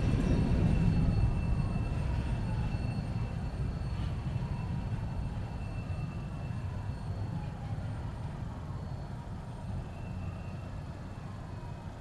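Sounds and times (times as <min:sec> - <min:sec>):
freight train rumbling past: 0:00.0 - 0:11.6.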